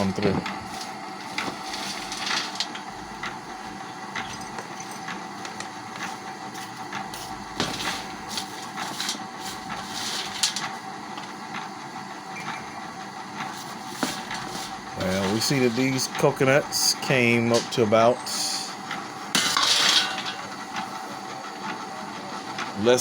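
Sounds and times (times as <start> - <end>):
oil press humming: 0.0 - 23.0.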